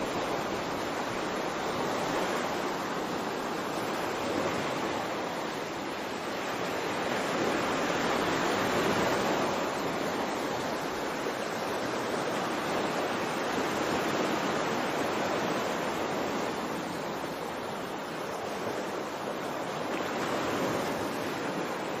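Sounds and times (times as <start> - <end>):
ocean waves washing: 0.0 - 22.0.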